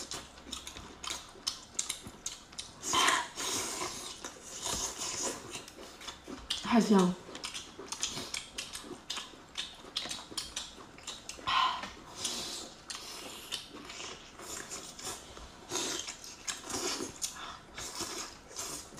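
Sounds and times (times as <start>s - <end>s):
chewing and lip-smacking: 0.0s - 18.9s.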